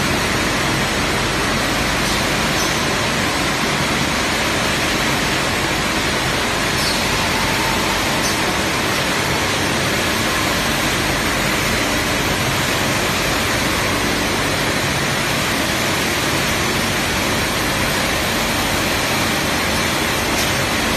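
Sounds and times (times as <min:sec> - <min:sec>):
pipe mill rushing noise: 0:00.0 - 0:20.9.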